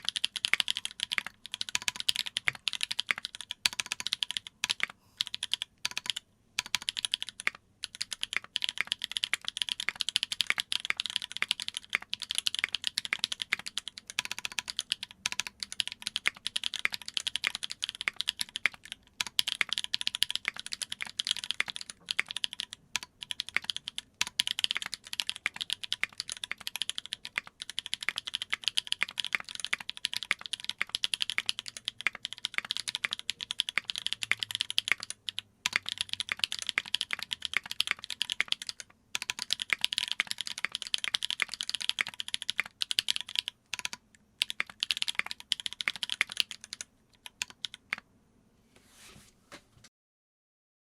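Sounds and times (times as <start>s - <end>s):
mechanical keyboard typing: 0.0s - 48.0s.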